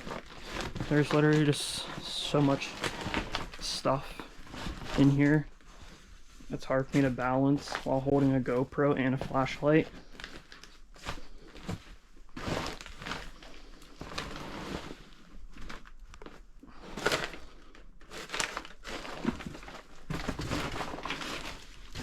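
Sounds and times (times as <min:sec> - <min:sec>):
papers rustling and crunching underfoot: 0:00.0 - 0:22.0.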